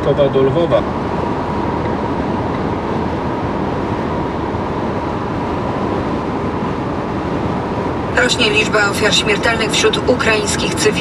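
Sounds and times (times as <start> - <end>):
road and engine noise in van: 0.0 - 11.0.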